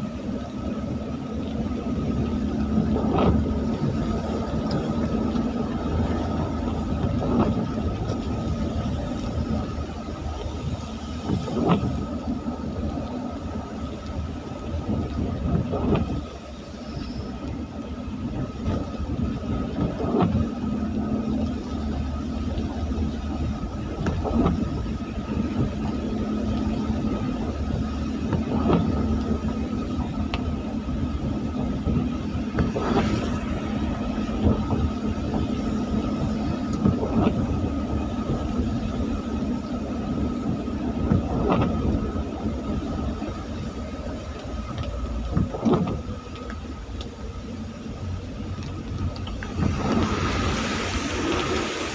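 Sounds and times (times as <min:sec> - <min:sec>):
vehicle engine and tyre noise: 0:00.0 - 0:51.9.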